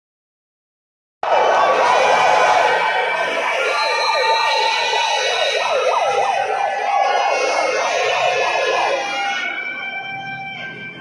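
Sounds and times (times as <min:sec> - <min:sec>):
siren yelping: 0:01.2 - 0:11.0.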